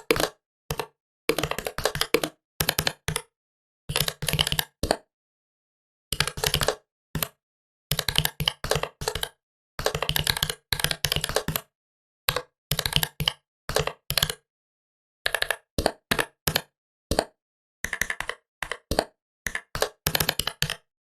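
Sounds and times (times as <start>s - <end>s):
computer keyboard typing: 0.0s - 3.2s, 3.9s - 5.0s, 6.2s - 7.3s, 7.9s - 11.6s, 12.3s - 14.4s, 15.3s - 20.9s.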